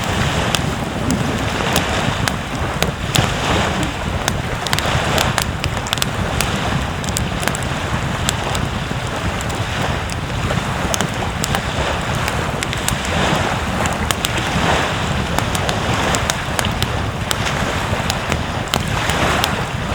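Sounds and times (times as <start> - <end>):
ocean surf: 0.0 - 19.9
sharp irregular crackles: 0.0 - 19.9
wind buffeting microphone: 0.0 - 19.9.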